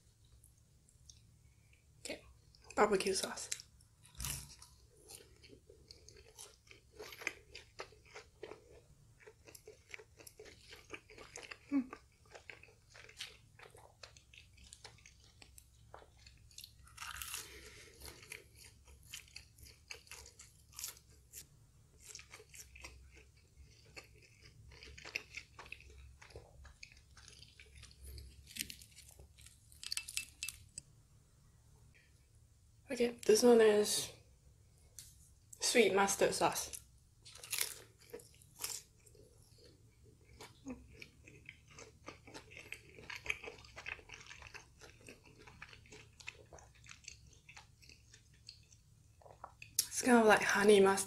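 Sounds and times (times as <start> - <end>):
chewing crispy fried food: 0.2 - 30.8, 36.6 - 50.5.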